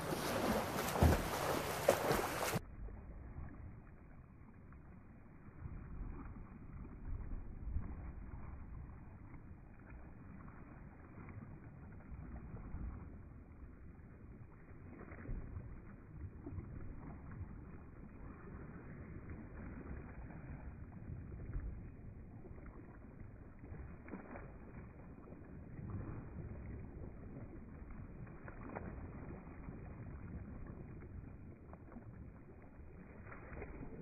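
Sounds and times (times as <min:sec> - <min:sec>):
pool water splashing: 0:00.0 - 0:34.0.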